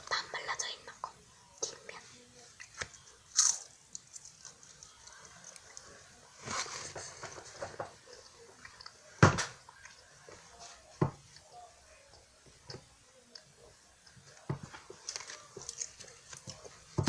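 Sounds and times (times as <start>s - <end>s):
person chewing pastry: 2.5s - 17.0s.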